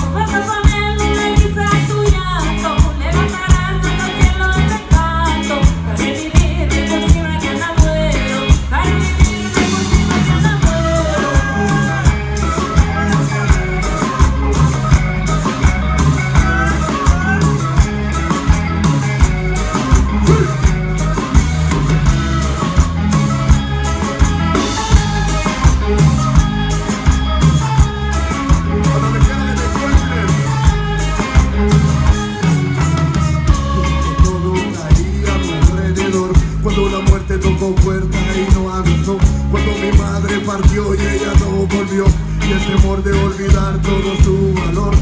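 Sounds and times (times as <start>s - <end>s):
bass line: 0.0s - 45.0s
drums beating: 0.0s - 45.0s
live band playing latin music: 0.0s - 45.0s.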